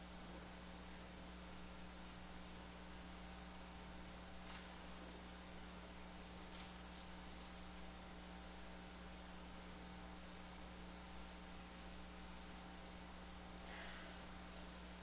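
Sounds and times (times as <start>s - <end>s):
background hiss: 0.0s - 15.0s
electrical mains hum: 0.0s - 15.0s.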